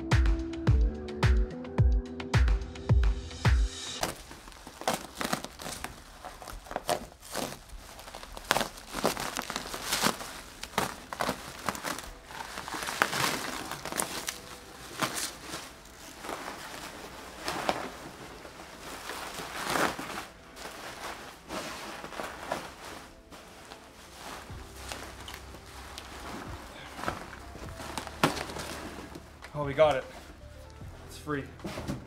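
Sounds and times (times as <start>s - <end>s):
bubble wrap crinkling: 3.9s - 32.0s.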